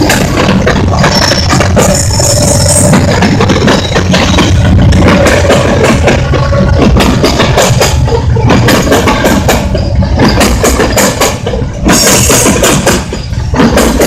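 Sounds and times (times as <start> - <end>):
freight train rumbling past: 0.0 - 14.0
steel wheels clattering on rails: 0.0 - 14.0.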